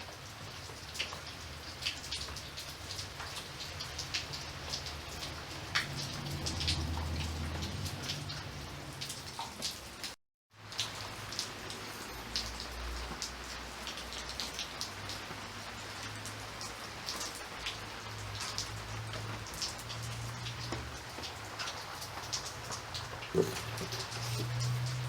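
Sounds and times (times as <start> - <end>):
rain drops striking a surface: 0.0 - 25.0.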